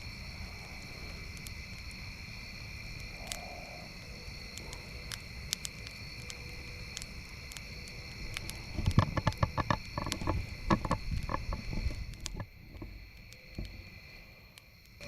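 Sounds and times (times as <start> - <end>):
campfire crackling and popping: 0.0 - 15.0
high insect chorus: 0.0 - 15.0.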